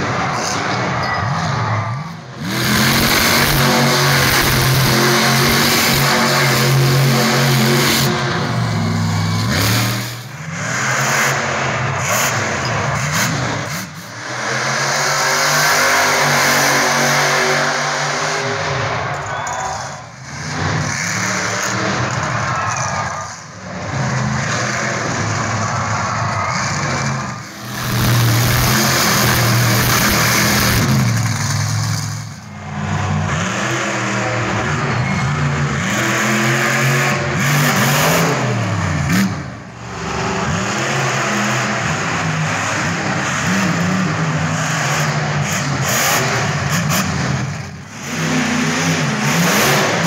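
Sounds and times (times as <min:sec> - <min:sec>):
truck engines revving hard: 0:00.0 - 0:50.0.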